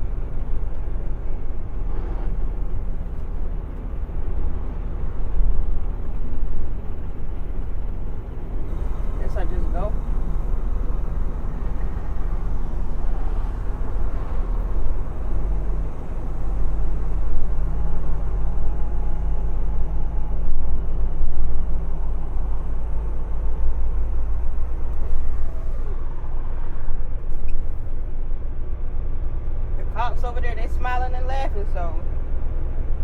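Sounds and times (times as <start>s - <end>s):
road noise: 0.0s - 33.0s
truck engine drone: 0.0s - 33.0s.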